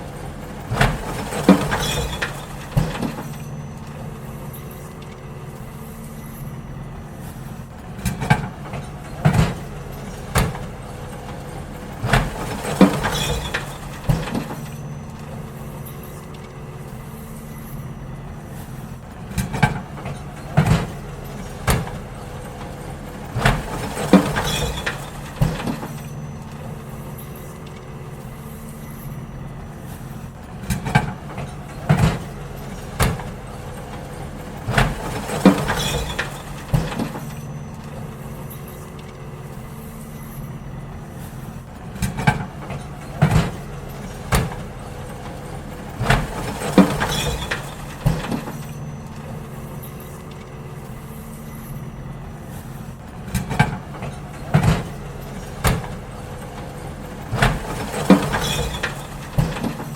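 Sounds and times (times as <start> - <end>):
bins banging against truck: 0.0 - 59.9
garbage truck engine running: 0.0 - 59.9.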